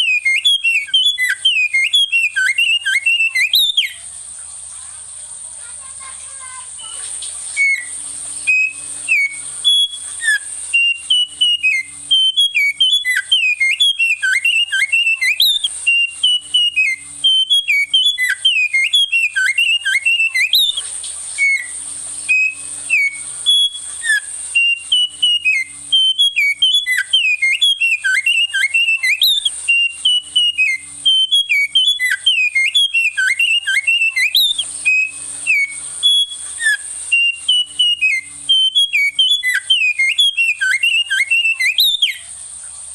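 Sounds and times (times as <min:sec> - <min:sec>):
songbird whistling: 0:00.0 - 0:05.0, 0:05.8 - 0:42.9
steady high hiss: 0:00.0 - 0:42.9.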